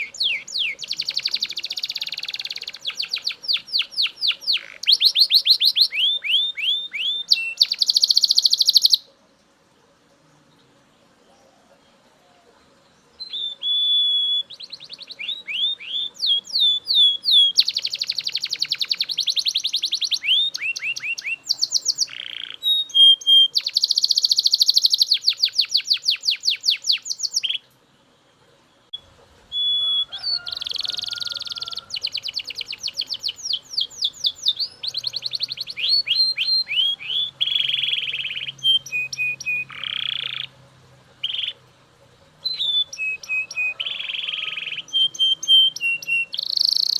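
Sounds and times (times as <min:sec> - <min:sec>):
canary singing trills: 0:00.0 - 0:09.2, 0:10.4 - 0:27.8, 0:28.7 - 0:46.9.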